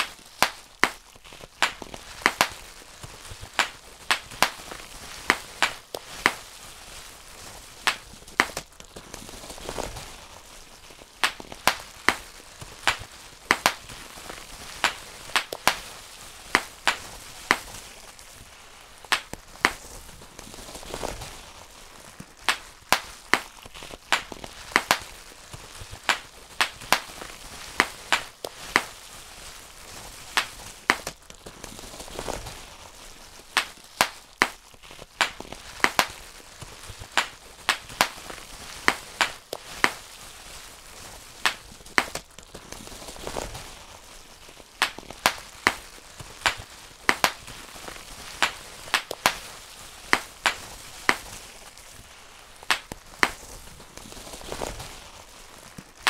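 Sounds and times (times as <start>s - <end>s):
bubble wrap popping: 0.0s - 56.0s
plastic sheet crinkling: 0.0s - 56.0s.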